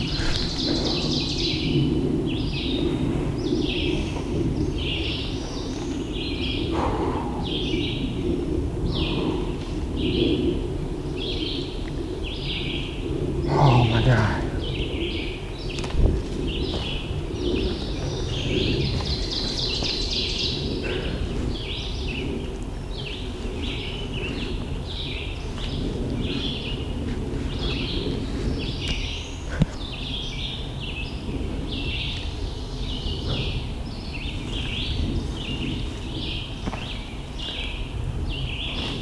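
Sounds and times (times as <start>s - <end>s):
songbirds chorus: 0.0s - 39.0s
steady low rumble: 0.0s - 39.0s.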